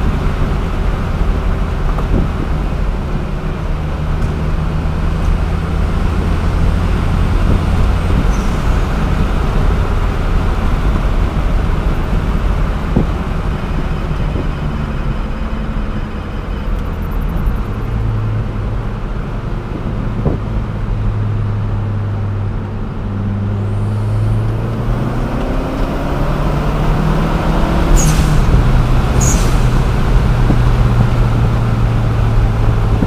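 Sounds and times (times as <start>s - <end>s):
car engine droning: 0.0s - 33.0s.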